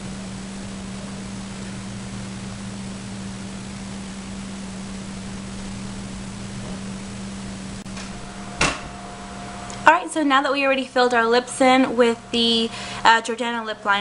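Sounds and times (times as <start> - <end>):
low constant hum: 0.0 - 14.0
steady hiss: 0.0 - 14.0.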